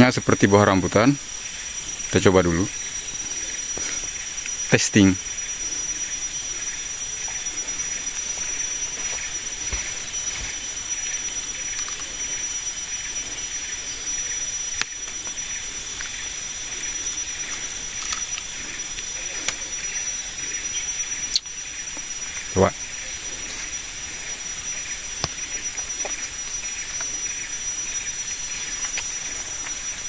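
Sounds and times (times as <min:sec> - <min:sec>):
forest ambience hiss: 0:00.0 - 0:30.0.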